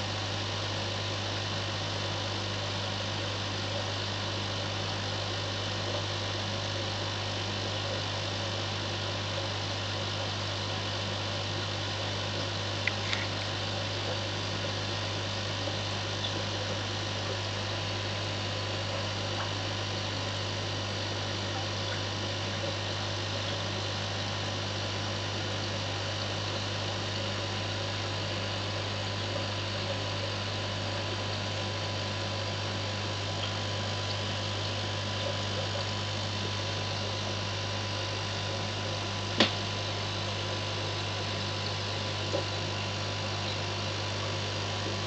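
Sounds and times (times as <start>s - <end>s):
aquarium pump humming: 0.0s - 45.0s.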